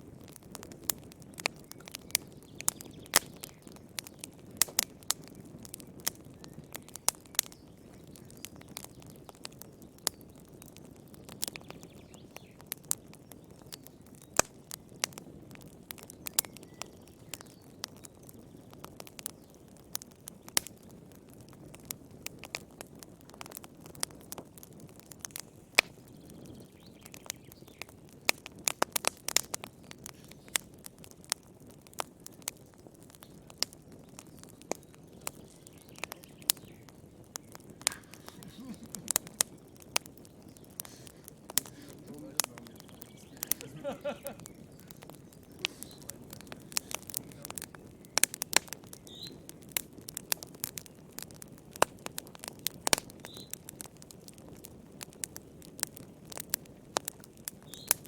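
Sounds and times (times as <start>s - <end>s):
flames rushing: 0.0s - 58.0s
wood fire crackling: 0.0s - 58.0s.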